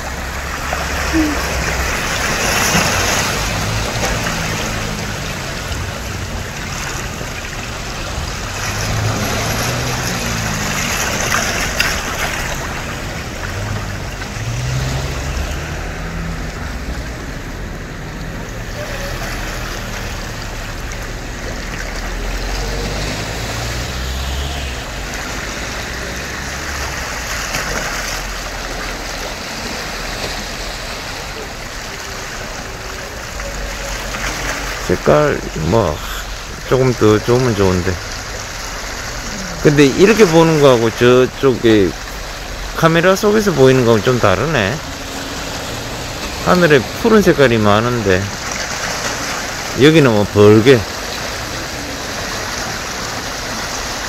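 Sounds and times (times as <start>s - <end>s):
small waves washing along shore: 0.0s - 54.0s.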